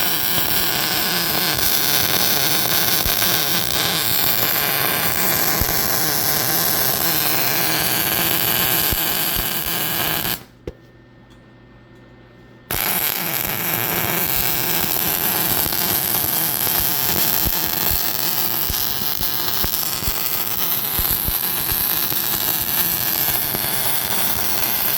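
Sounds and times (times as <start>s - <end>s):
welding arc hissing and crackling: 0.0s - 10.5s, 12.7s - 24.9s.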